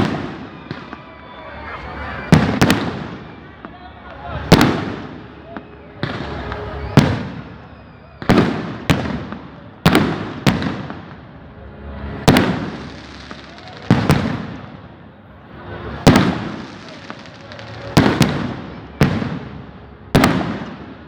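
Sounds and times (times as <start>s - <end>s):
firecracker bangs echoing: 0.0s - 11.4s, 12.3s - 15.0s, 15.9s - 21.0s.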